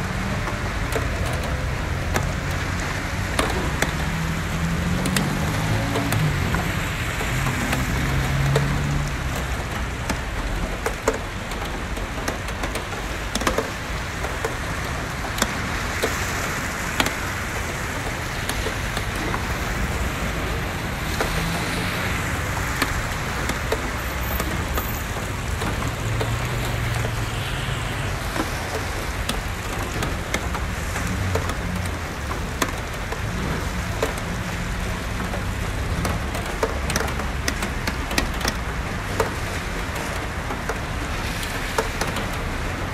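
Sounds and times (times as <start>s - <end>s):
heavy rain: 0.0s - 42.9s
raindrops tapping: 0.0s - 42.9s
vehicles on wet road: 0.0s - 42.9s.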